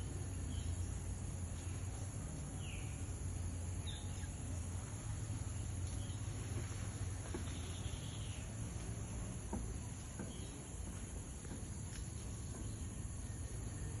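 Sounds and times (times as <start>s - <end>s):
crickets chirping chorus: 0.0s - 14.0s.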